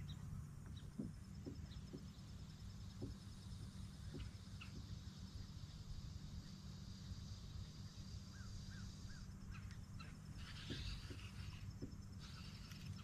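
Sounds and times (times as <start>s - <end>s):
faint bird chirps: 0.0s - 13.0s
low steady hum: 0.0s - 13.0s.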